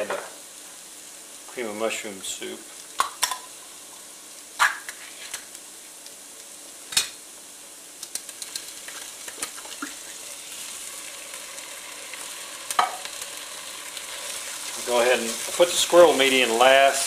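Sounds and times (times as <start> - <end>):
onions sizzling in a skillet: 0.0 - 17.0.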